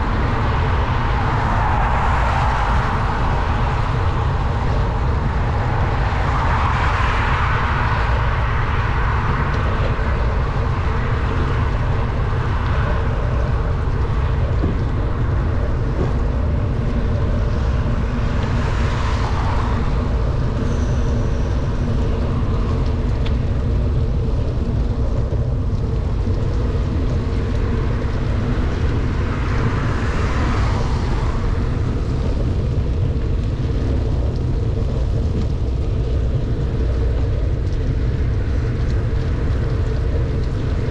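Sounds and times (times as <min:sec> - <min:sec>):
traffic noise: 0:00.0 - 0:40.9
wind rumble on microphone: 0:00.0 - 0:40.9.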